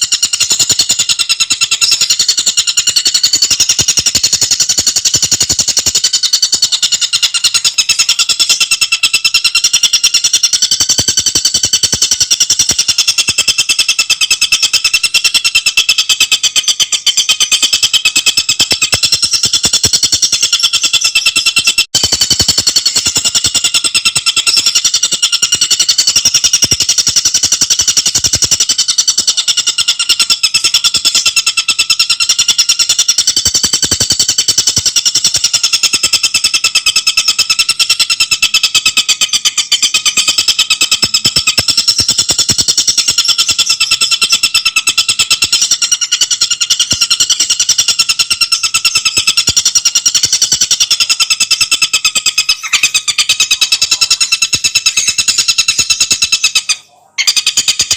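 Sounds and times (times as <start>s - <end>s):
songbird chattering trill: 0.0s - 57.9s.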